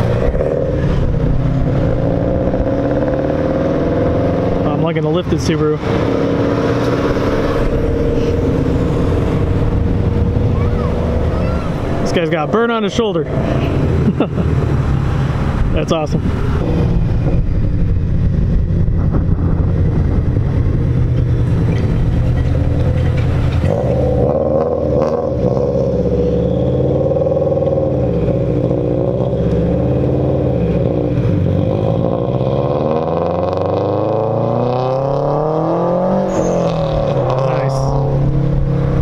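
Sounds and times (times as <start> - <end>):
car engine pulling away: 0.0 - 39.0.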